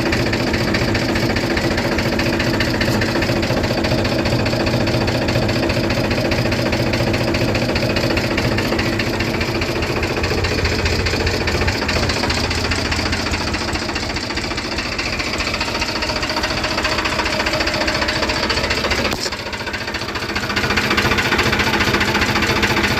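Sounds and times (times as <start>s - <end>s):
tractor diesel engine running: 0.0s - 22.9s.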